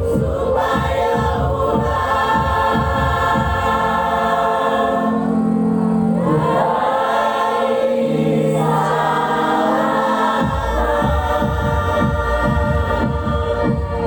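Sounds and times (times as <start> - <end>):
choir singing sustained notes: 0.0 - 14.0.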